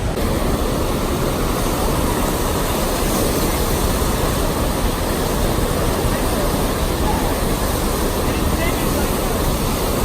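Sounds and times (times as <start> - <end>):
loud buffeting rushing noise: 0.0 - 10.0.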